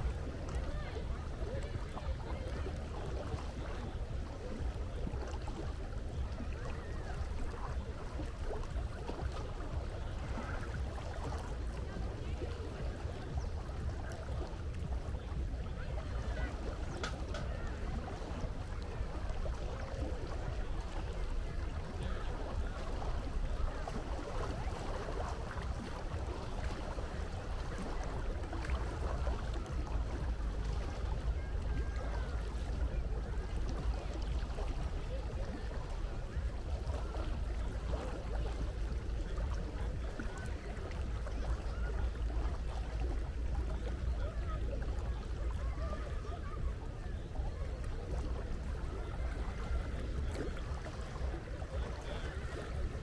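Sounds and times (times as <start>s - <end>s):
faint indistinct voices: 0.0s - 53.0s
sea water washing: 0.0s - 53.0s.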